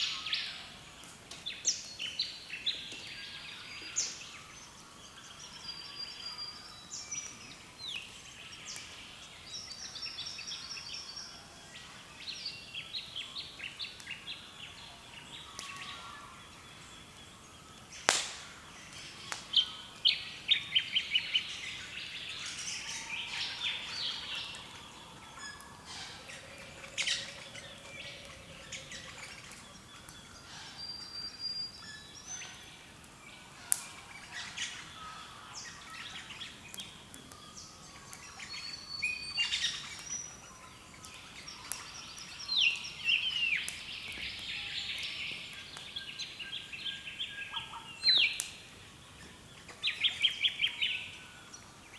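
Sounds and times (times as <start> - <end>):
birds chirping and trilling: 0.0 - 51.9.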